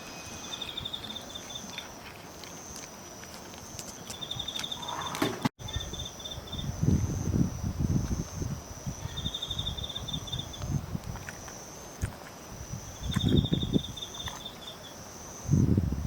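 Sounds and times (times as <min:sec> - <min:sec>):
continuous insect trill: 0:00.0 - 0:16.0
crickets trilling in bursts: 0:00.0 - 0:16.0.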